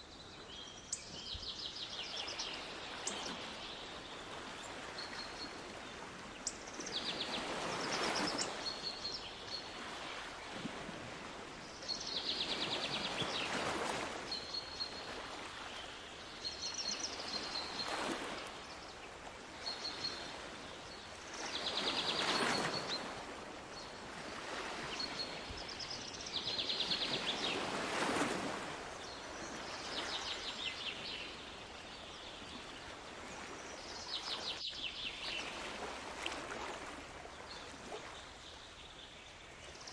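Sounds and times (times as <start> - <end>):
waves washing in: 2.0 - 38.8.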